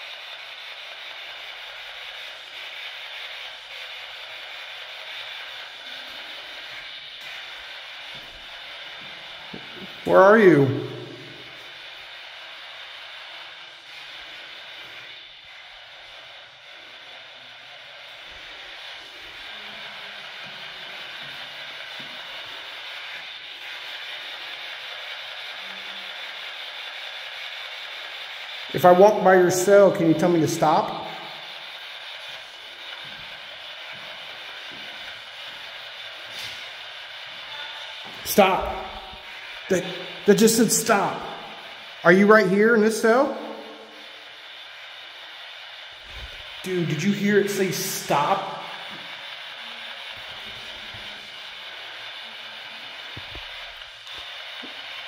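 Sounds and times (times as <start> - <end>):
steady static hiss: 0.0 - 55.0.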